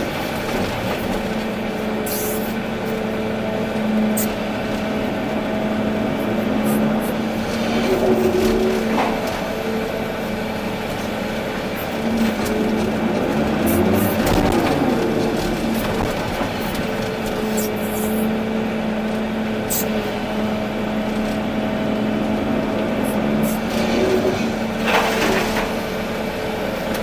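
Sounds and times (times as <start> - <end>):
excavator engine and hydraulics: 0.0 - 27.0.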